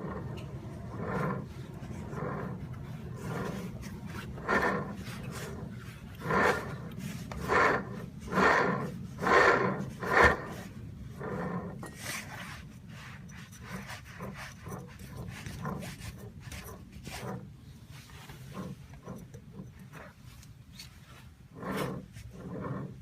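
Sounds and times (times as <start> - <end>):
growling bearing grinding: 0.0 - 23.0.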